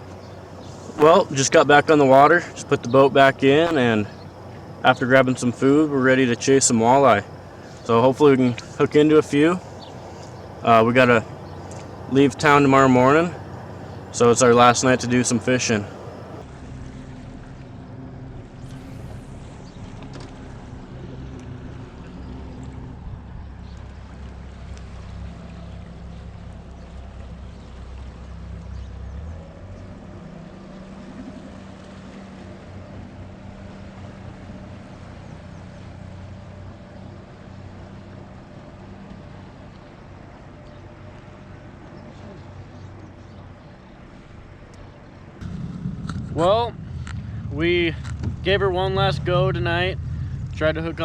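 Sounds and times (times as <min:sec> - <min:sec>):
boat motor running: 0:00.0 - 0:51.0.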